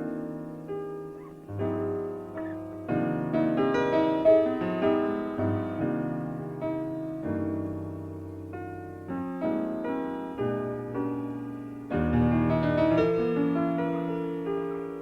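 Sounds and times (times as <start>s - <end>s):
jazz piano chords: 0.0s - 15.0s.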